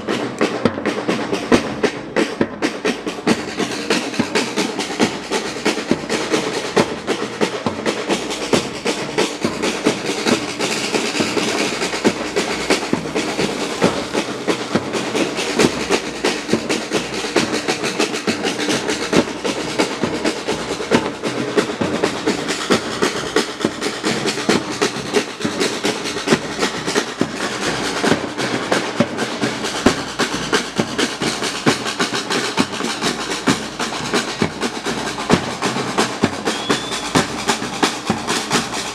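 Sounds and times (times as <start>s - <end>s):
samba drum ensemble playing: 0.0s - 38.9s.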